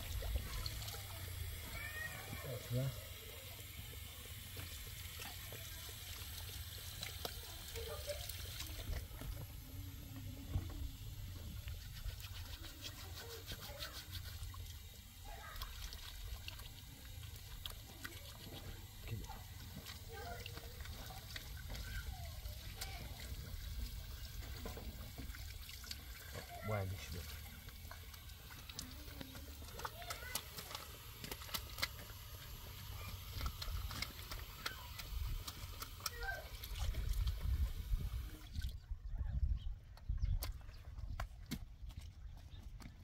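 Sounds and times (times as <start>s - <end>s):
water splashing and dripping: 0.0s - 43.0s
water trickling into a basin: 0.0s - 43.0s.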